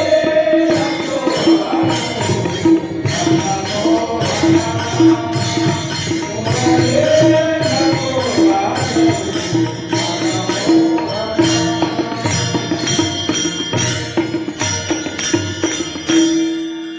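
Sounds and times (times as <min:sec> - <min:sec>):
devotional folk music: 0:00.0 - 0:16.1
percussion strokes: 0:00.0 - 0:16.9.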